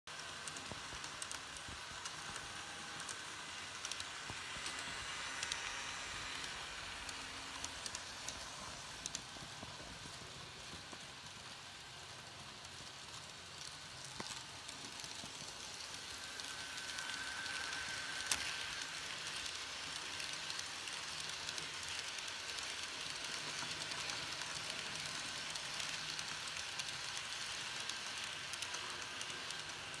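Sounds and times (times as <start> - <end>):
model train wheels and motors: 0.1 - 30.0
thin whine: 0.5 - 12.1, 12.7 - 30.0.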